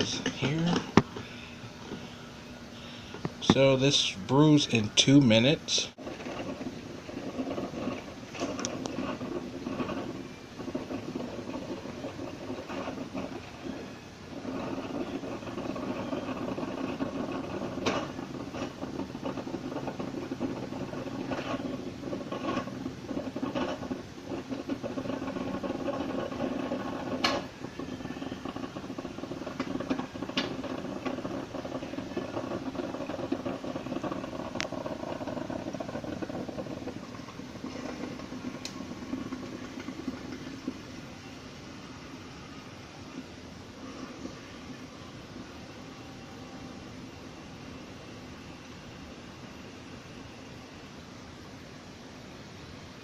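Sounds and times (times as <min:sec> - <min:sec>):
coffee maker hissing and gurgling: 0:00.0 - 0:53.0.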